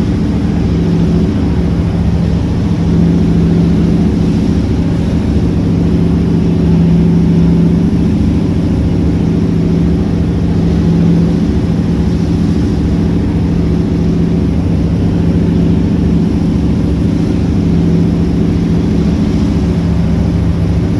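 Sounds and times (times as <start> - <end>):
engine drone: 0.0 - 20.9.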